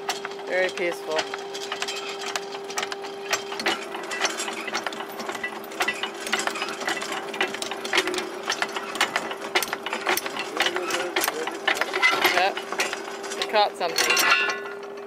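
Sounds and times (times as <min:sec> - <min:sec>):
anchor chain clanking: 0:00.0 - 0:15.0
windlass motor hum: 0:00.0 - 0:15.0.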